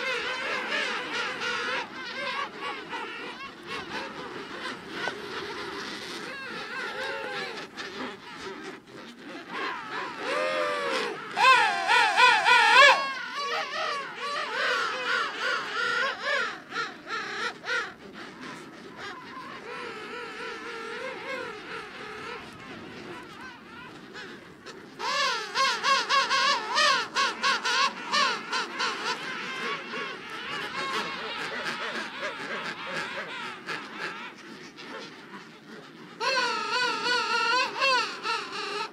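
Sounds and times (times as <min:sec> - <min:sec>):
penguins calling: 0:00.0 - 0:38.9.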